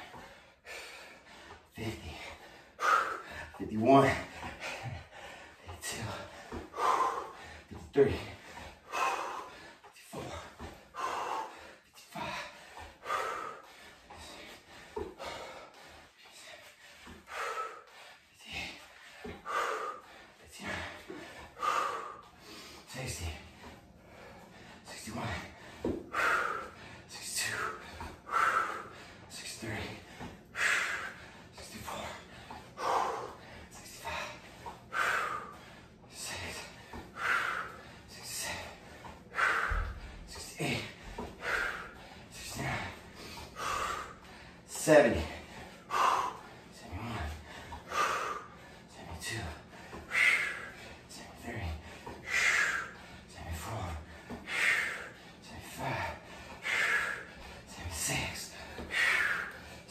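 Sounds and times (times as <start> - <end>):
man breathing hard: 0.0 - 59.9.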